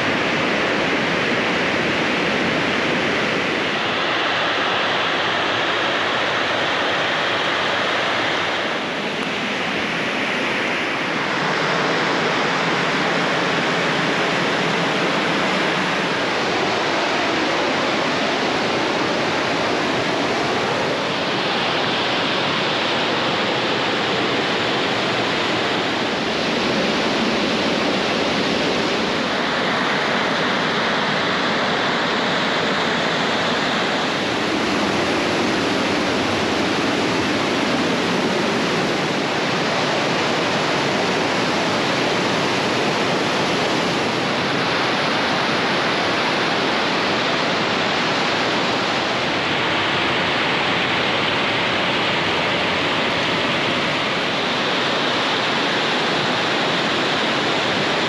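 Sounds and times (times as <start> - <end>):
river and waterfalls rushing: 0.0 - 58.0.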